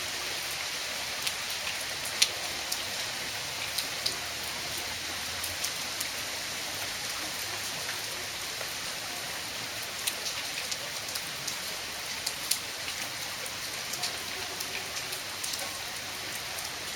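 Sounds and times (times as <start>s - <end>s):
heavy rain: 0.0s - 16.9s
raindrops ticking on hard surfaces: 0.0s - 16.9s.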